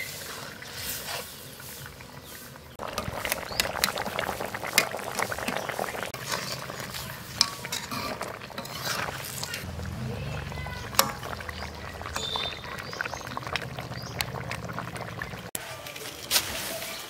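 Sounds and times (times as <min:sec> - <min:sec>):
curry bubbling and popping: 0:01.4 - 0:15.6.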